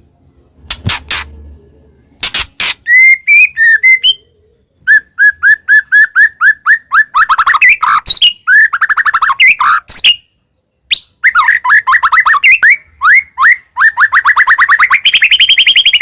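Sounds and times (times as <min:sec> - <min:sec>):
bird singing rising notes and trills: 0:00.0 - 0:16.0.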